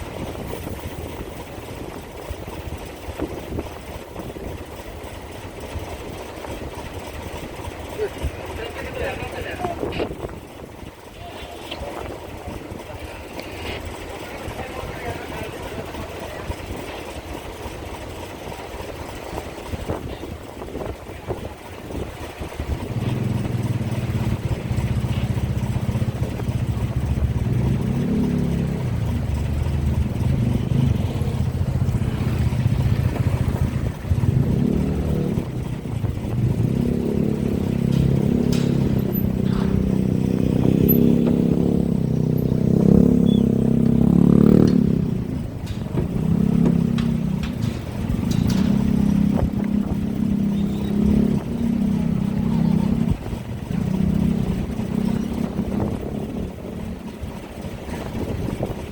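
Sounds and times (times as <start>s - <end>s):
large engine running: 0.0s - 58.9s.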